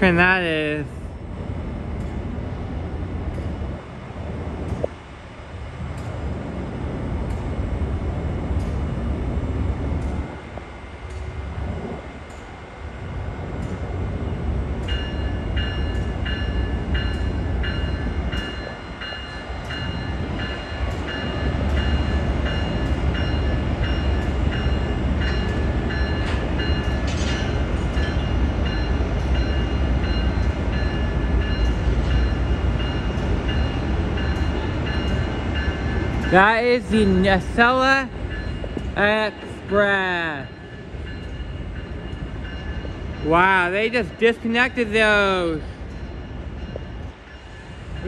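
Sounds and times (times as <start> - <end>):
train rumbling into station: 0.0 - 48.0.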